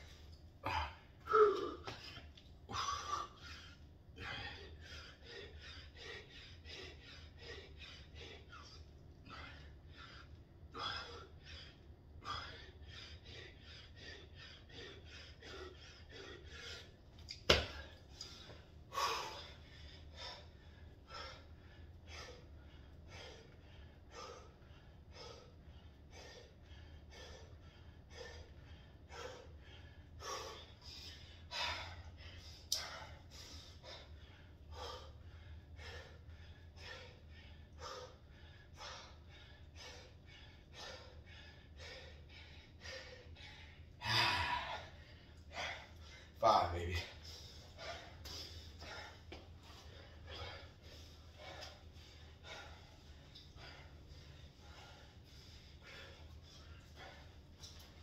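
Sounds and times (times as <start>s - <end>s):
man breathing hard: 0.0s - 58.0s.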